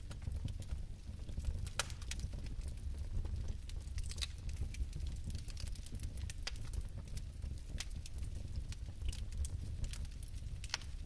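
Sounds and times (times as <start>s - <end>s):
fire crackles and pops: 0.0s - 11.0s
fire low rumble: 0.0s - 11.0s.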